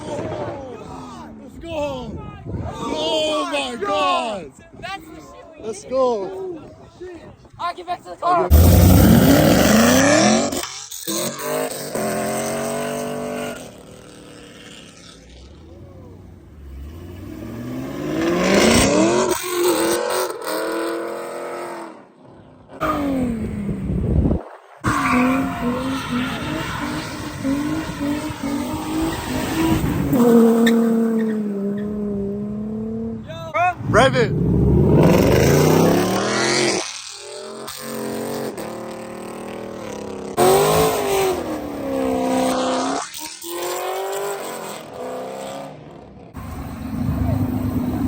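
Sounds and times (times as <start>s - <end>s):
cars with loud exhaust accelerating: 8.5s - 48.0s.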